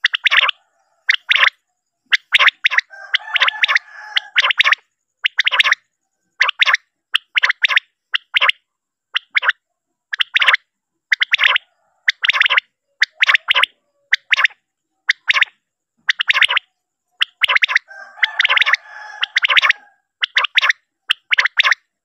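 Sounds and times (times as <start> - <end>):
quail calling: 0.0 - 21.9.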